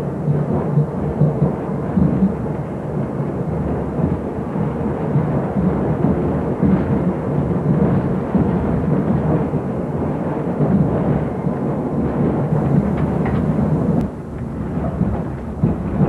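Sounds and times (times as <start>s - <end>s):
streetcar wheels rumbling: 0.0s - 16.0s.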